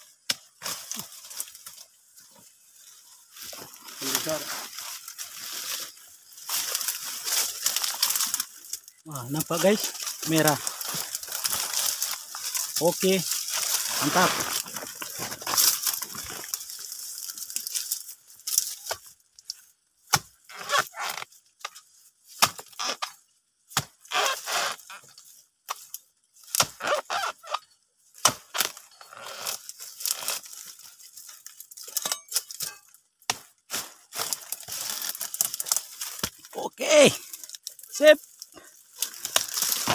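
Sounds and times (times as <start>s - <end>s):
dry fronds cracking and snapping: 0.1s - 23.2s, 24.0s - 39.9s.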